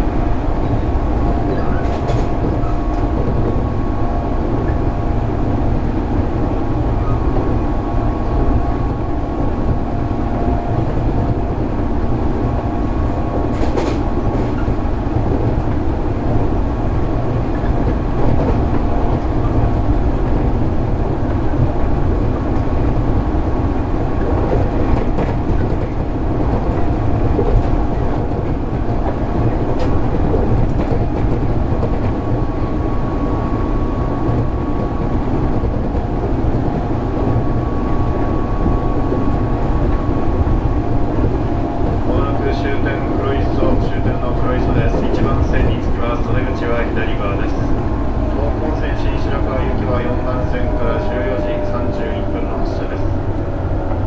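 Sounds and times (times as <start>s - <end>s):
train hum: 0.0s - 54.0s
train wheels rumbling on rail: 0.0s - 54.0s.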